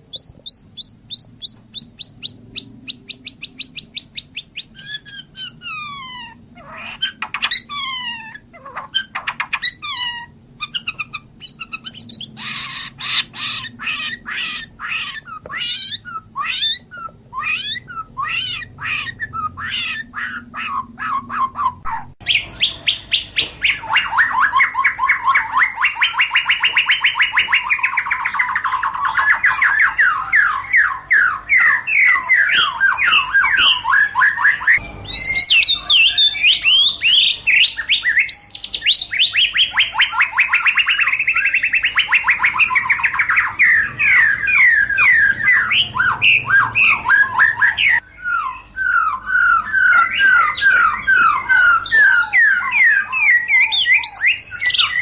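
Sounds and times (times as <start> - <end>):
songbird whistling and chattering: 0.0 - 55.0.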